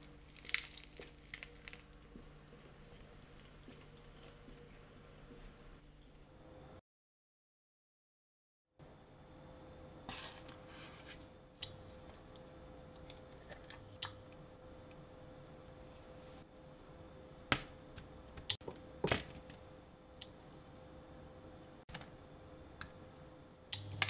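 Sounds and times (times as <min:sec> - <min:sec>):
faint steady hum: 0:00.0 - 0:06.8, 0:08.8 - 0:24.0.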